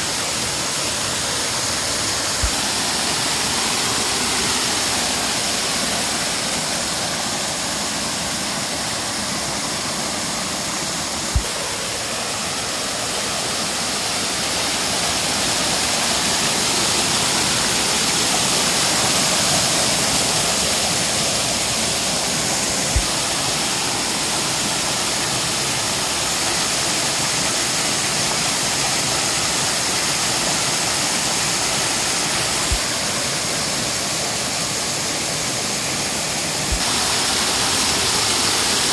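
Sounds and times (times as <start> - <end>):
waterfall crashing into pool: 0.0 - 38.9.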